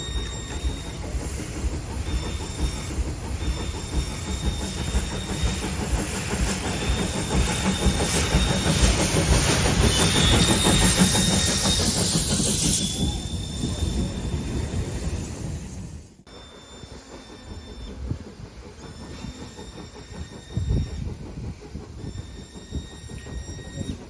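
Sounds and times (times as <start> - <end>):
train hiss: 0.0 - 24.0
train wheels rattling: 0.0 - 24.0.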